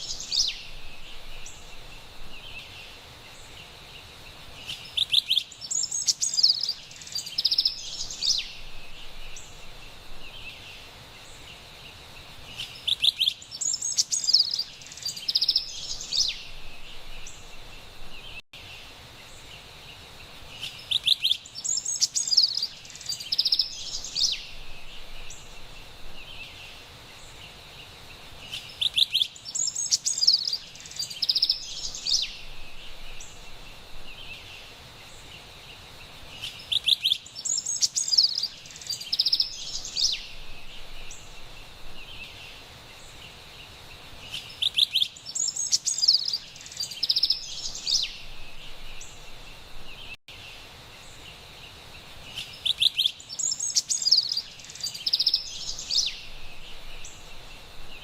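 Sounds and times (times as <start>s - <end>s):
wren singing: 0.0s - 3.6s, 4.6s - 11.6s, 12.4s - 18.4s, 20.5s - 27.6s, 28.4s - 35.4s, 36.3s - 50.4s, 52.3s - 58.0s
soft background hiss: 0.0s - 58.0s.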